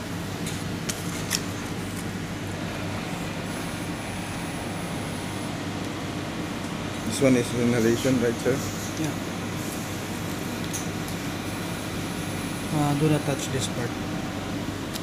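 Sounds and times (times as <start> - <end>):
air conditioning hum: 0.0 - 15.0.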